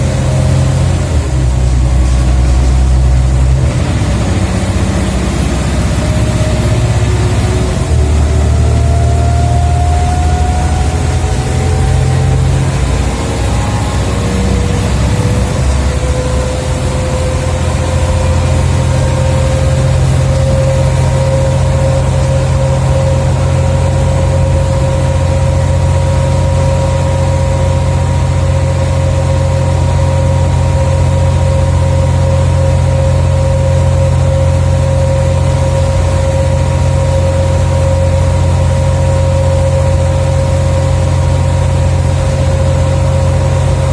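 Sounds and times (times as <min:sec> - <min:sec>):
bus engine drone with whine: 0:00.0 - 0:43.9.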